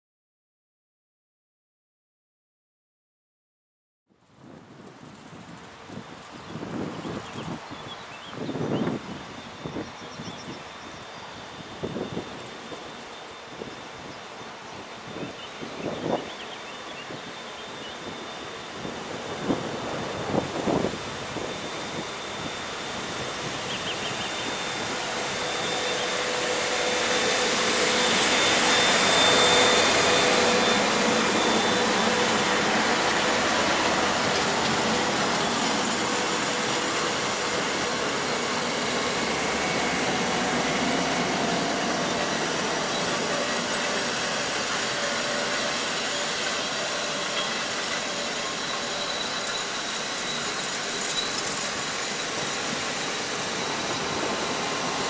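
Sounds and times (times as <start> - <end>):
train wheels rumbling on rail: 4.2 - 55.0.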